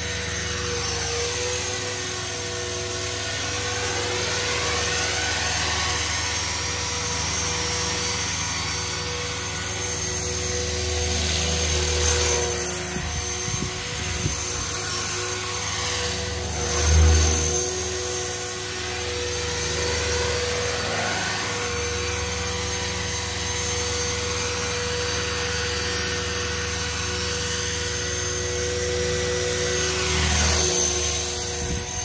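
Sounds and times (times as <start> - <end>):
model helicopter motor and rotor whine: 0.0 - 32.0.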